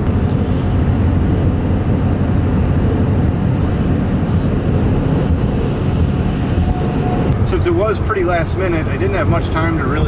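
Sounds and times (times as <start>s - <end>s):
truck rumble from inside cab: 0.0s - 10.0s.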